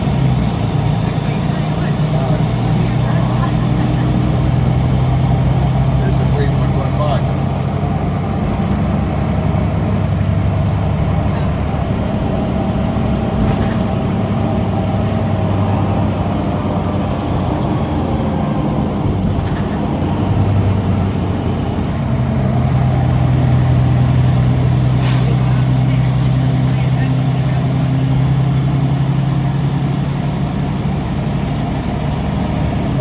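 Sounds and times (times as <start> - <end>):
bus diesel engine droning: 0.0 - 33.0.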